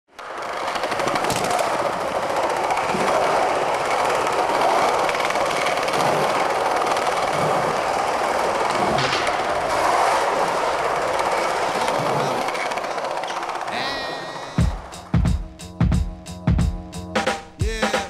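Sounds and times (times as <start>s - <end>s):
skateboard wheels rolling on tiles: 0.1s - 14.8s.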